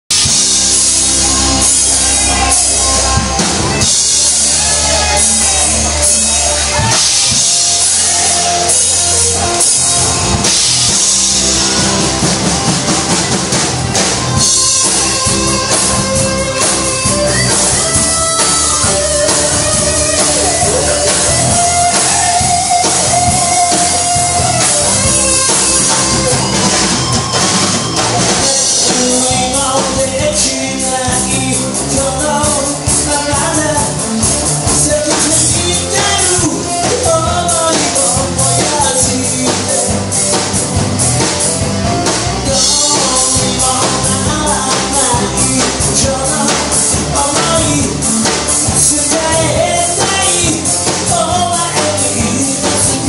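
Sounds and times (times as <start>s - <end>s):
rock music: 0.0s - 53.0s
held melody line: 0.1s - 53.0s.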